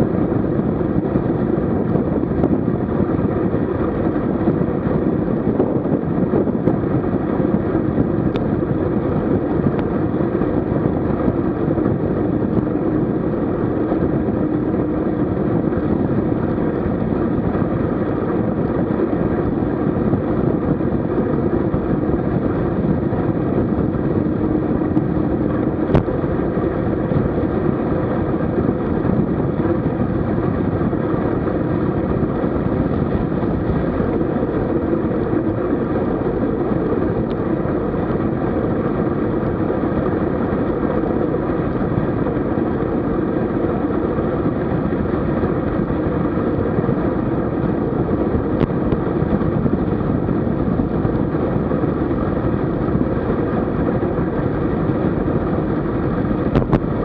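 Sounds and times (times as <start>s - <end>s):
road noise: 0.0s - 57.0s
wind rush on microphone: 0.0s - 57.0s.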